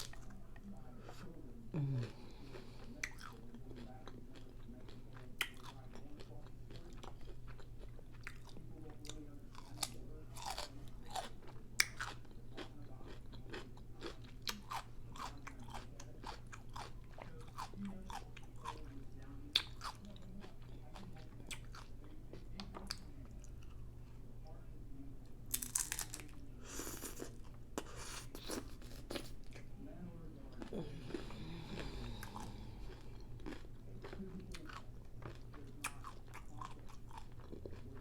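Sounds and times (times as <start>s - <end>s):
chewing and crunching crisp shell: 0.0s - 24.2s, 25.3s - 38.0s.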